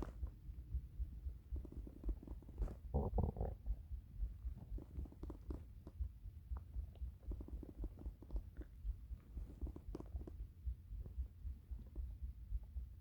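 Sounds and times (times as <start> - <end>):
stomach rumbling and gurgling: 1.0 - 12.7.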